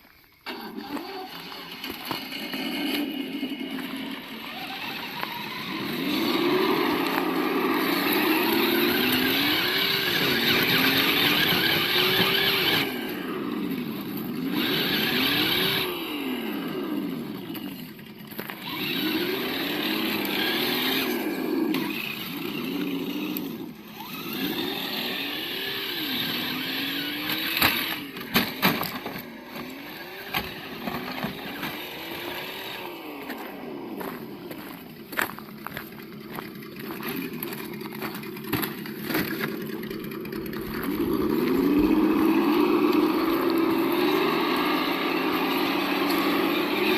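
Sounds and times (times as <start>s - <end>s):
simulated engine revving: 0.4s - 46.9s.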